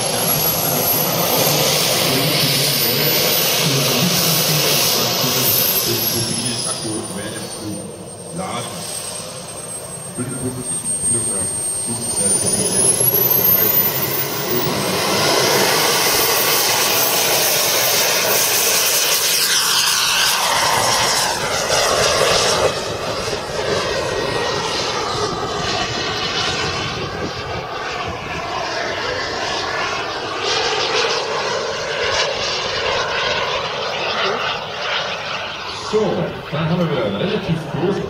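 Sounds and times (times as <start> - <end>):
model jet turbine whine: 0.0 - 38.0.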